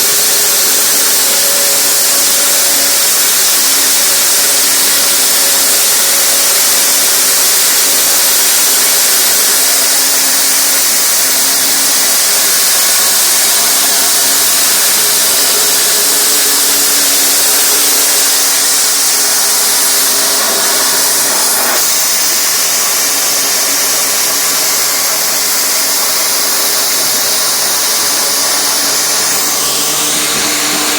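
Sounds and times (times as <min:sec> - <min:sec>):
feed grinder crushing grain: 0:00.0 - 0:30.9.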